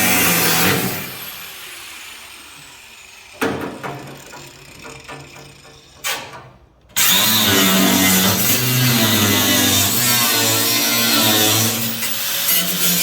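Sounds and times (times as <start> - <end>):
grinder cutting sheet metal: 0.0 - 6.3, 7.0 - 13.0.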